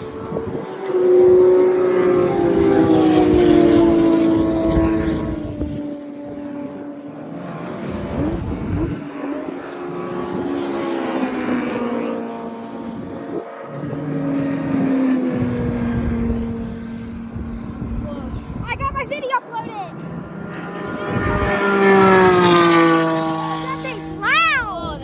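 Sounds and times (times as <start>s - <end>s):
race car engines passing: 0.0s - 25.0s.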